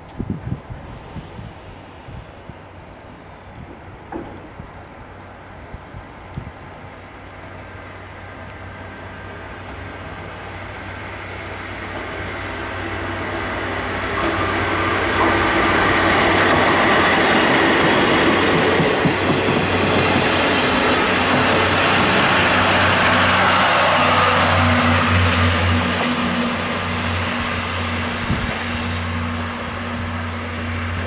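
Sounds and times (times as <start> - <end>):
train passing with wheel clatter: 0.0 - 31.0.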